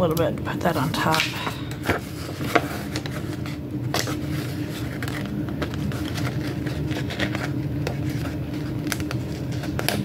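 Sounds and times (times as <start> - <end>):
low hum: 0.0 - 10.0
paper and stickers rustling: 0.7 - 10.0.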